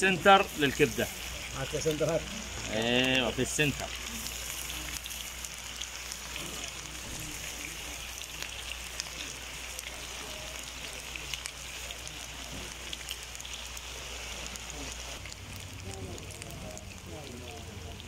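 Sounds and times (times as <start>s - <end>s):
meat and vegetables sizzling: 0.0s - 18.0s
small crackles: 1.2s - 18.0s.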